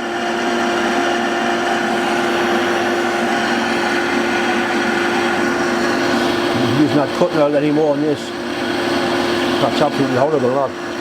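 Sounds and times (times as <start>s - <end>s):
metal lathe cutting steel: 0.0s - 11.0s.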